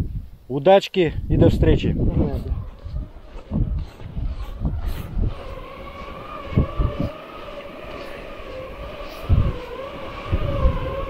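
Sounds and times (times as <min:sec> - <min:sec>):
low thumps: 0:01.6 - 0:11.0
flying insect whining: 0:01.9 - 0:11.0.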